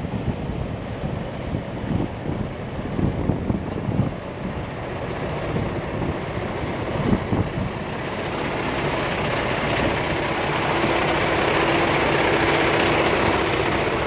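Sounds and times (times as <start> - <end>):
heavy vehicle engine rumble: 0.0 - 14.0.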